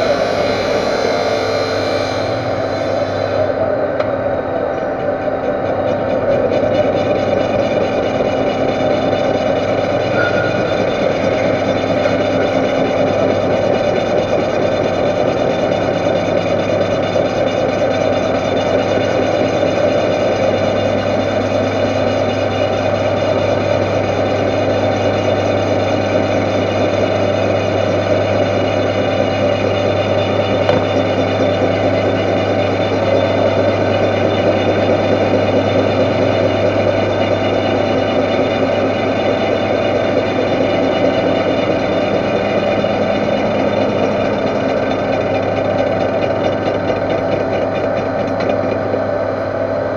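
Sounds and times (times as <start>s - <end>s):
metal lathe humming: 0.0s - 49.9s.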